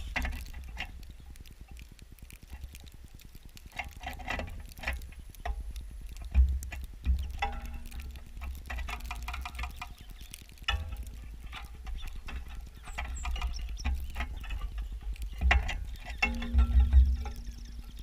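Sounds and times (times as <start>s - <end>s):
birds pecking at a feeder: 0.0s - 18.0s.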